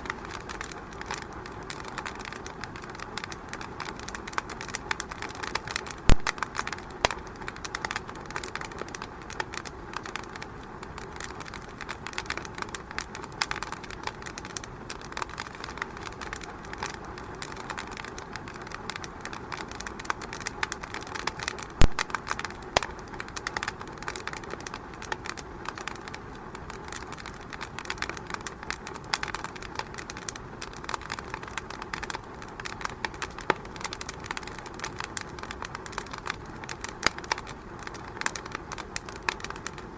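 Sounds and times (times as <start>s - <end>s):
fireplace wood fire crackling: 0.0s - 39.9s.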